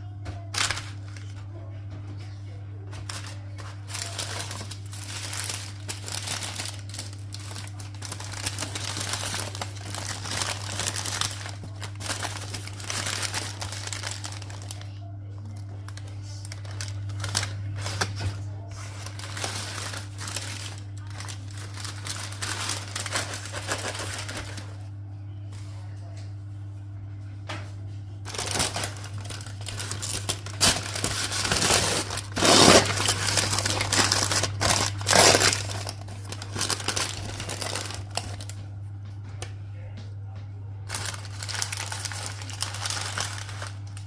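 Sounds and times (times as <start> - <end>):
steady low hum: 0.0 - 44.0
paper packaging crinkling: 0.4 - 1.6, 2.8 - 24.9, 28.2 - 38.8, 40.8 - 44.0.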